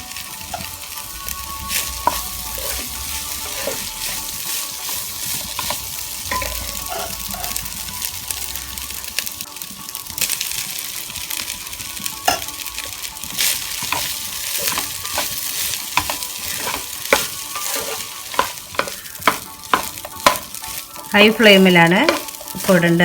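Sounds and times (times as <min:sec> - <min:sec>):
spatula scraping and knocking pan: 0:00.0 - 0:09.3, 0:11.5 - 0:23.0
rice sizzling in a pan: 0:00.0 - 0:23.0.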